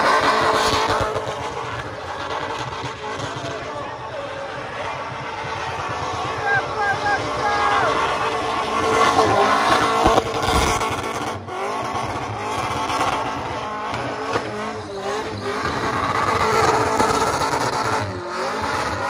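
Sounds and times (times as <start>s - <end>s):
car engine revving hard: 0.0s - 19.0s.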